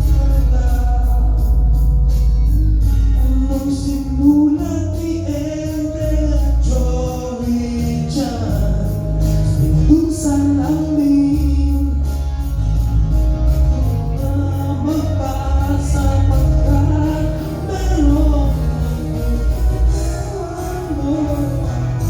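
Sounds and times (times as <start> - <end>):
song with singing voice: 0.0 - 22.0
steady bass: 0.0 - 22.0.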